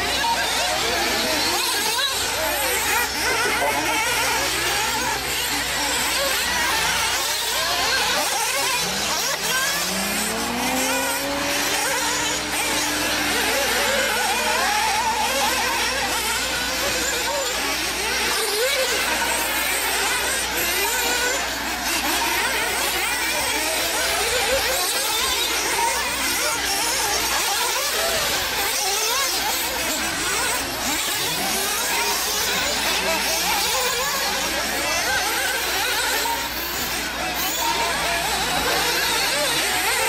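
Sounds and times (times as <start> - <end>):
small engines revving buzz: 0.0 - 40.0.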